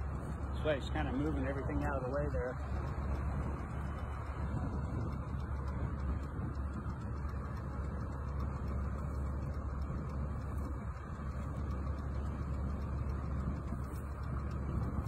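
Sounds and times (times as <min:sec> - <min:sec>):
fire truck engines idling: 0:00.0 - 0:15.0.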